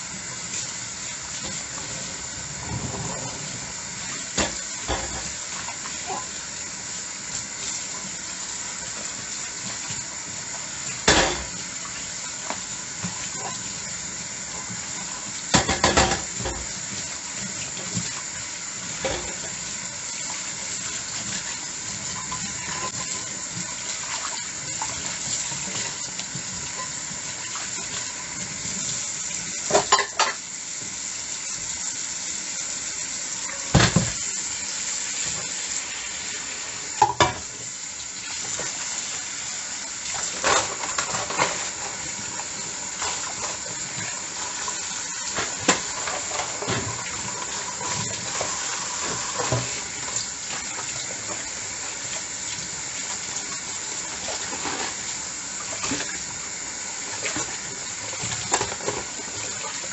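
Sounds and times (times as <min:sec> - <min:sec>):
tap water running into sink: 0:00.1 - 0:35.8, 0:36.4 - 0:59.9.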